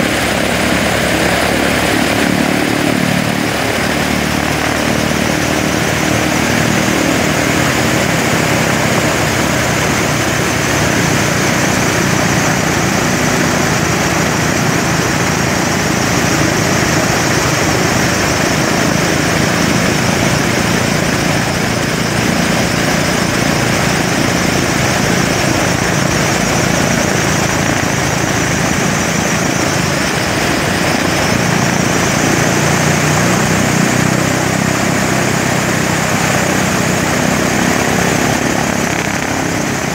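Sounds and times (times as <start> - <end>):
high engine whine: 0.0 - 39.9
propeller aircraft engine running: 0.0 - 39.9.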